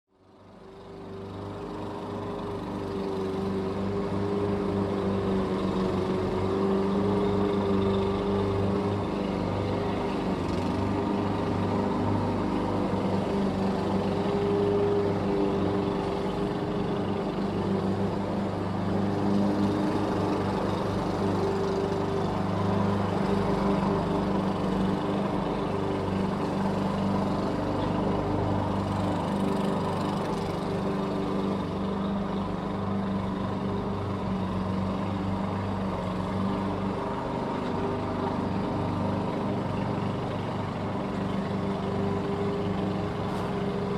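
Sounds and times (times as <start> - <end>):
lawn mower engine running: 0.4 - 43.9.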